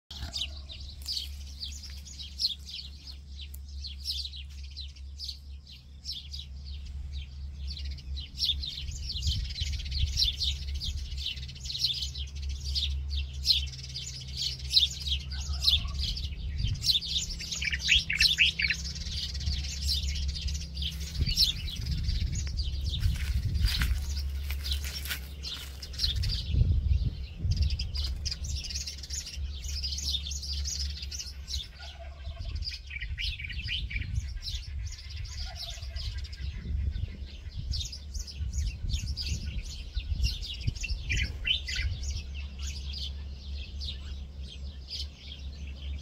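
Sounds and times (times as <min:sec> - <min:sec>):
small birds chirping: 0:00.1 - 0:46.0
steady low rumble: 0:00.1 - 0:46.0.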